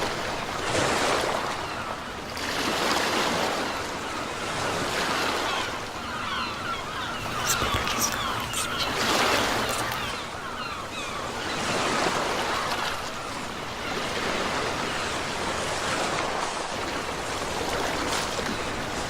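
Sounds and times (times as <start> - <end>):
ocean waves washing: 0.0 - 19.0.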